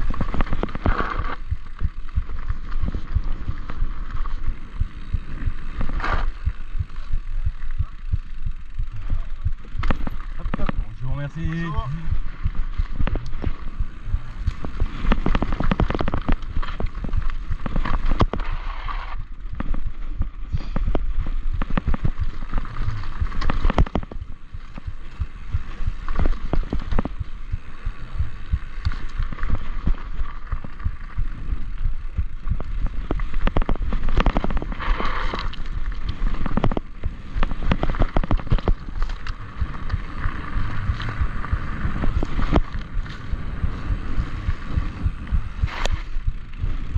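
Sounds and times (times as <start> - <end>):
bike clattering over stones: 0.0 - 12.0, 14.4 - 27.7, 32.3 - 46.8
tyres on loose gravel: 0.0 - 46.9
wind rumble on microphone: 0.0 - 46.9.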